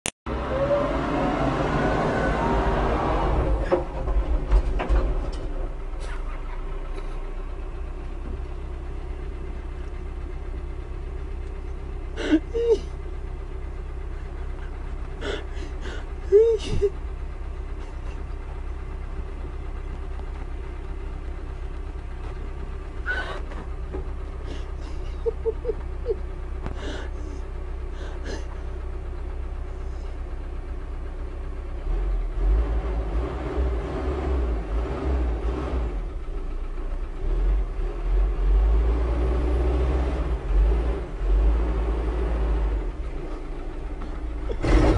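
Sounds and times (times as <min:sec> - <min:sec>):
wheel loader engine running: 0:00.3 - 0:44.9.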